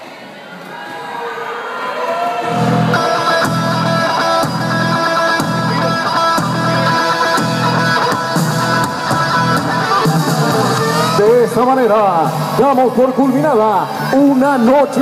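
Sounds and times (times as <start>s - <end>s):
rock music over arena speakers: 2.4s - 15.0s.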